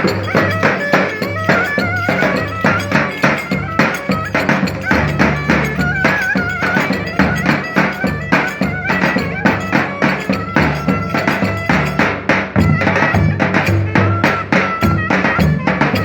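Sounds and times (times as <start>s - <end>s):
fast drum beats: 0.0s - 16.0s
folk dance band melody: 0.0s - 16.0s.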